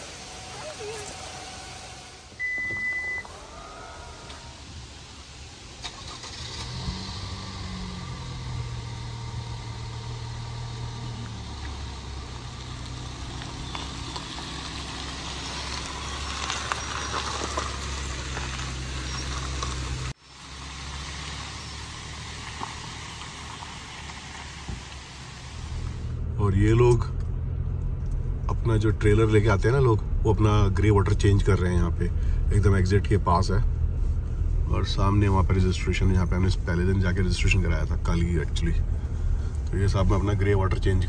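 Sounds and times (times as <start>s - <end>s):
vehicle engine humming: 0.0s - 41.0s
tyres crunching on gravel: 5.8s - 41.0s.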